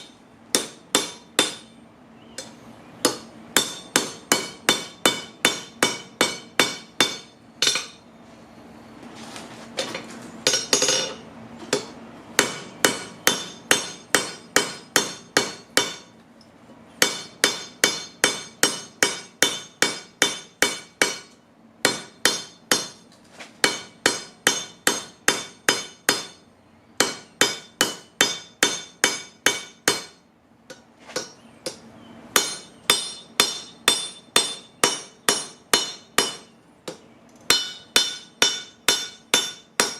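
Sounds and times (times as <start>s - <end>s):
hammer striking steel on anvil: 0.0s - 1.8s, 2.4s - 8.0s, 10.5s - 16.2s, 17.0s - 39.9s.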